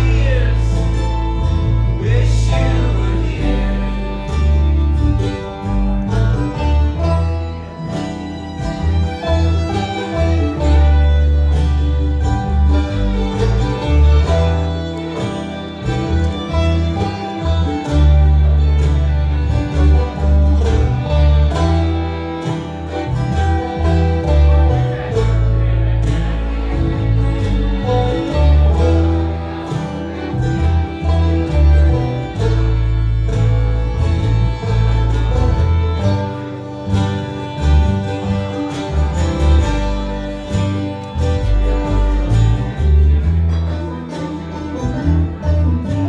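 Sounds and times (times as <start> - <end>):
banjo: 0.0 - 46.0
fiddle: 0.0 - 46.0
guitar: 0.0 - 46.0
mandolin: 0.0 - 46.0
upright bass: 0.0 - 46.0.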